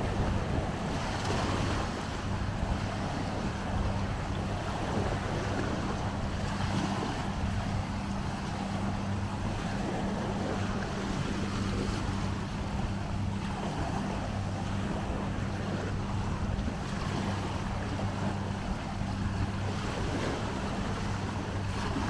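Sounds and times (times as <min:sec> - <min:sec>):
seawater lapping and sloshing: 0:00.0 - 0:22.0
steady low hum: 0:00.0 - 0:22.0
wind on microphone: 0:00.0 - 0:22.0.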